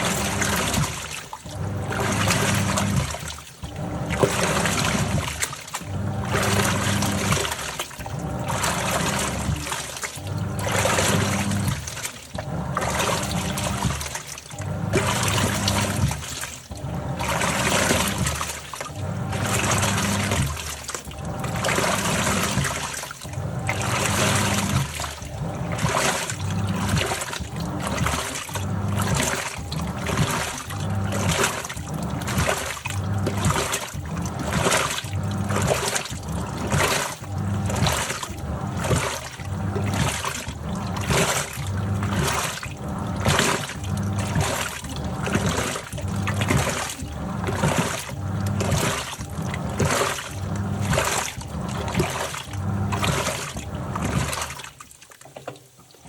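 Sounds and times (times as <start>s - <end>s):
washing machine water sloshing: 0.0s - 56.0s.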